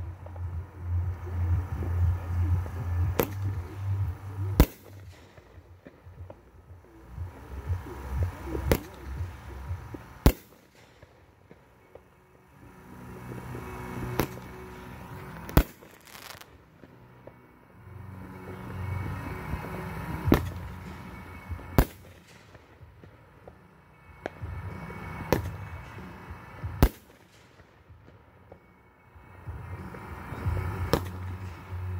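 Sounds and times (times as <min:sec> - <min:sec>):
fireworks bangs: 0:00.0 - 0:17.4, 0:18.6 - 0:31.9.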